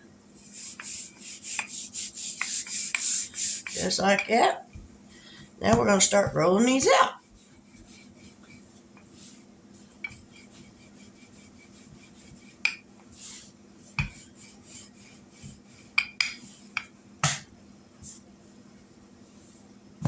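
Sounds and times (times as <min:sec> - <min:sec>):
steady low hum: 0:00.0 - 0:20.0
rolling pin rubbing on dough: 0:00.3 - 0:05.1, 0:05.7 - 0:17.1.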